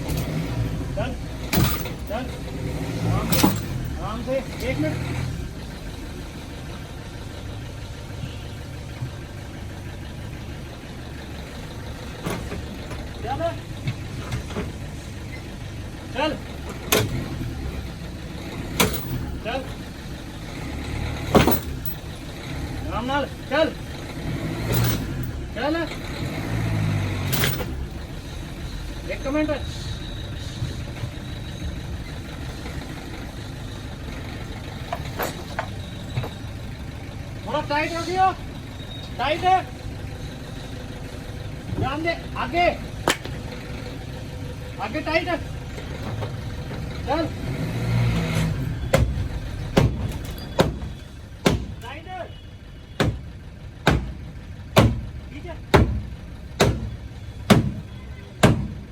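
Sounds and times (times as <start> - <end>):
car engine idling: 0.0 - 47.5, 48.4 - 58.9.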